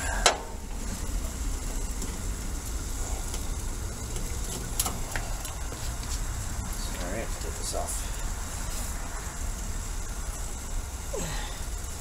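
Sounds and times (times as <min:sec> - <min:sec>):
gas burner rumbling: 0:00.0 - 0:12.0.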